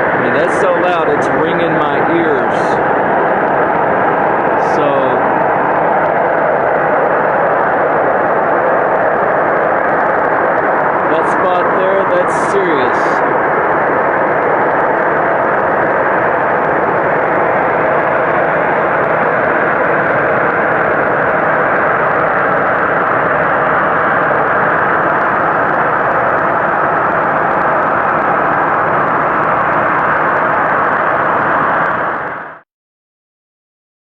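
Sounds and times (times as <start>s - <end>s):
loud rumbling drone: 0.0s - 32.6s.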